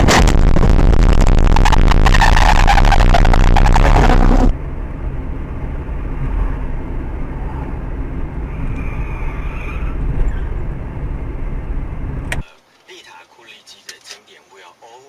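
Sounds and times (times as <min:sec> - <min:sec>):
road vehicle rumble: 0:00.0 - 0:12.7.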